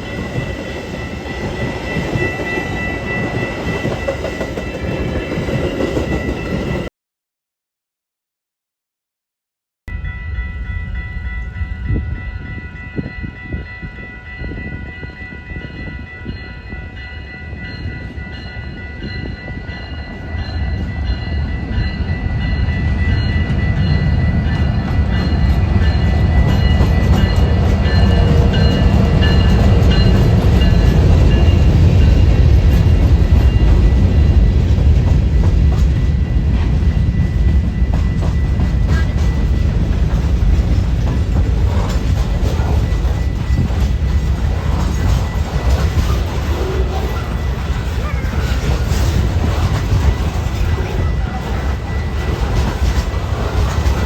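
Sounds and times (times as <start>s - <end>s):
train rumbling past: 0.0s - 6.9s, 9.9s - 54.0s.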